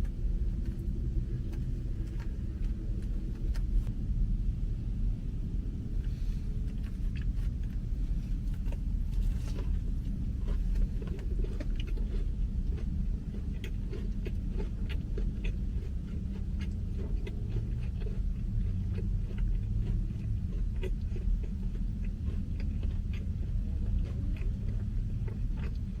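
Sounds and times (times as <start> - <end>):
person chewing with mouth clicks: 0.0 - 3.9, 6.0 - 26.0
steady low rumble: 0.0 - 26.0.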